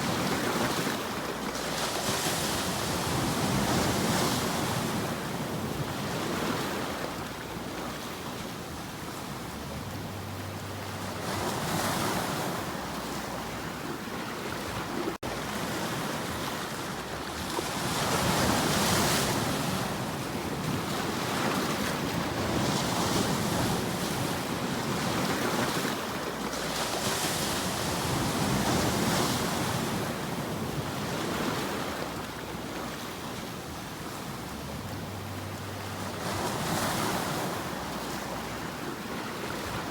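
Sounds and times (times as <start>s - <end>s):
ocean waves washing onto shore: 0.0s - 39.9s.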